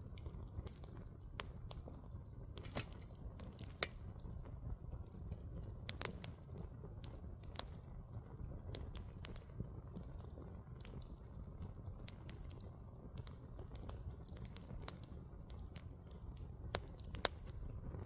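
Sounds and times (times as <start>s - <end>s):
flames rumbling: 0.0s - 18.0s
wood popping and crackling: 0.0s - 18.0s.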